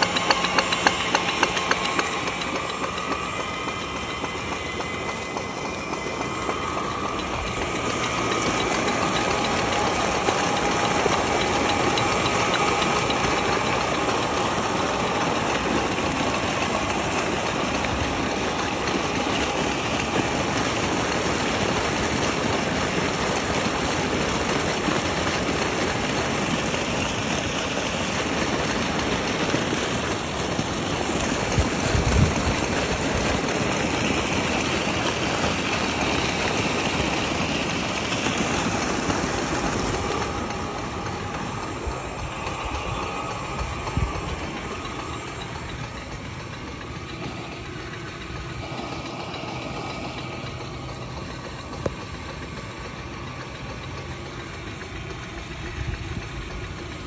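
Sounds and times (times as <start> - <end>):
electric pump motor humming: 0.0 - 57.0
water gushing from pipe: 0.0 - 57.0.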